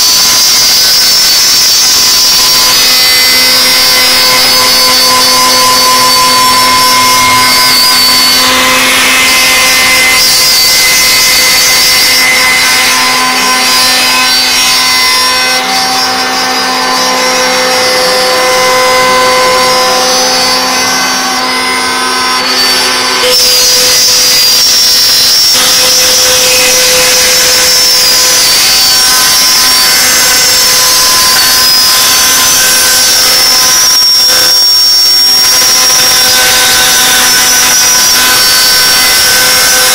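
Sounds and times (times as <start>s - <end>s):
gritty cutting noise: 0.0s - 39.9s
router spindle whining: 0.0s - 39.9s.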